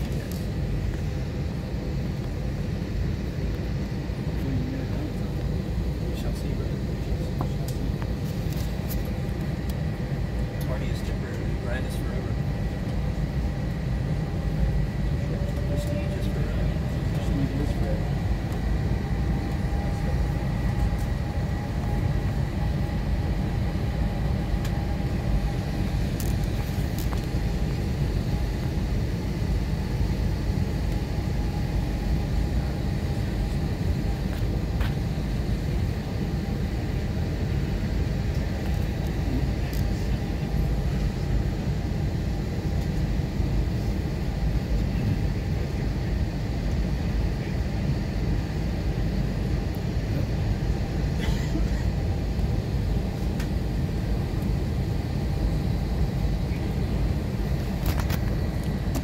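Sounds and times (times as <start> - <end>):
faint steady whine: 0.0 - 59.0
jet engines low rumble: 0.0 - 59.0.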